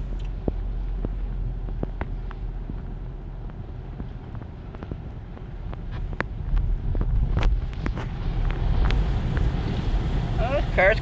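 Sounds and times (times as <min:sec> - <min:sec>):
light ticks: 0:00.0 - 0:09.8
road and engine rumble: 0:00.0 - 0:11.0.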